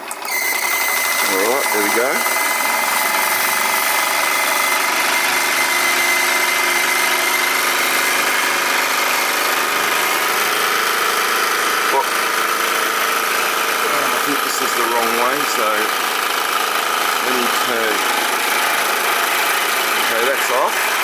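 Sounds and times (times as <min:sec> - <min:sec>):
toy steam engine running: 0:00.0 - 0:21.0.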